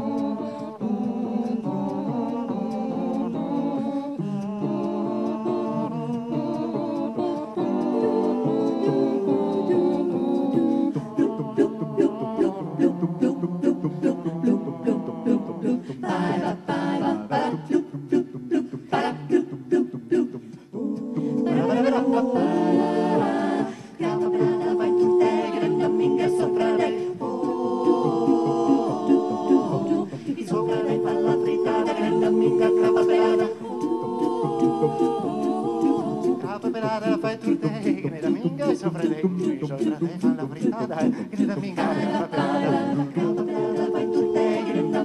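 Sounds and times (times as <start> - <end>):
vocal ensemble singing in harmony: 0.0 - 45.0.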